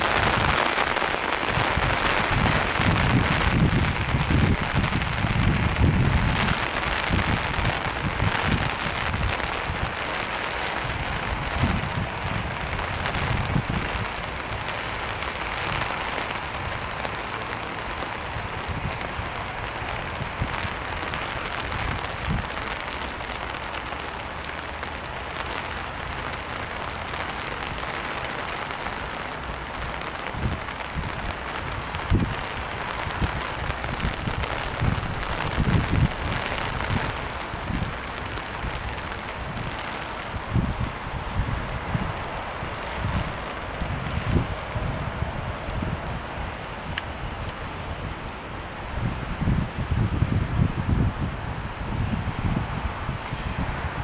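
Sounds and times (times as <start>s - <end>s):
rain hissing: 0.0s - 54.0s
wind buffeting microphone: 0.0s - 54.0s.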